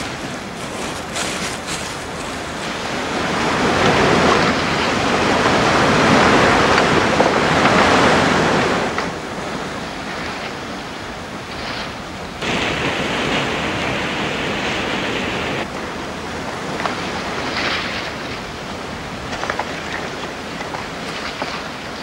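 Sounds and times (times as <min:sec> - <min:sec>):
surf breaking over rocks: 0:00.0 - 0:22.0.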